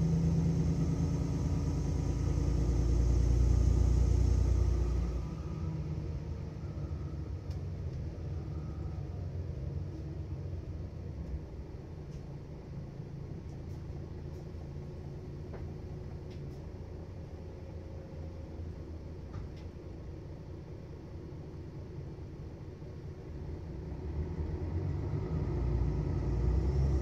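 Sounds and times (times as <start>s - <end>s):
bus engine rumbling: 0.0s - 27.0s.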